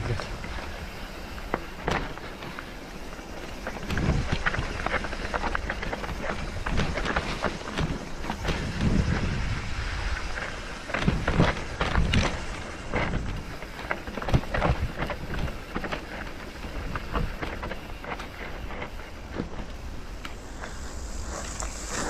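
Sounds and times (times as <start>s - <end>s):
vehicle rattling on rough track: 0.0s - 22.0s
wind rumbling on microphone: 0.0s - 22.0s.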